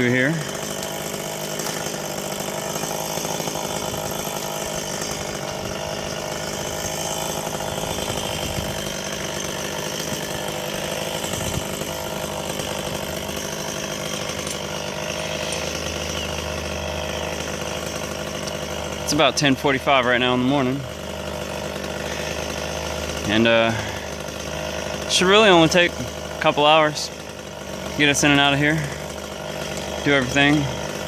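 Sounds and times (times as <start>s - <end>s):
chainsaw engine running: 0.0s - 31.0s.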